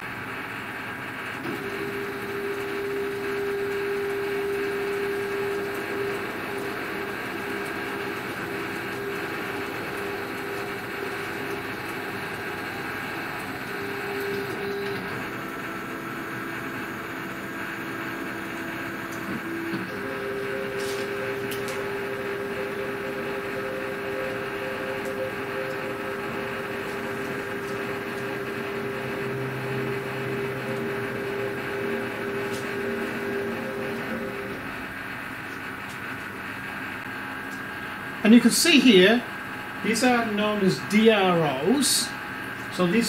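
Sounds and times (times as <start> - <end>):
motors whining: 1.0 - 43.0.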